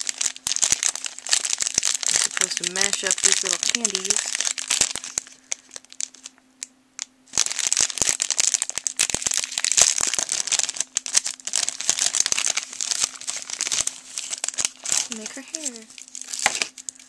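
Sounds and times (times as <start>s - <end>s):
plastic candy bag crinkling: 0.0s - 6.4s, 7.3s - 17.0s.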